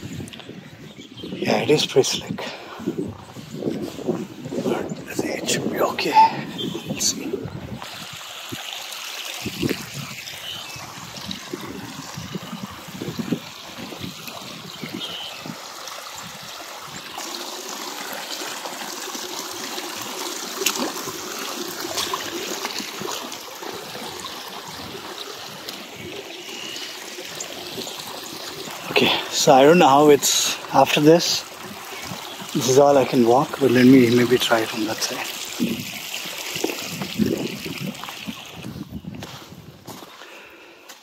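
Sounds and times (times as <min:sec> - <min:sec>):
shallow river water running: 0:00.0 - 0:41.0.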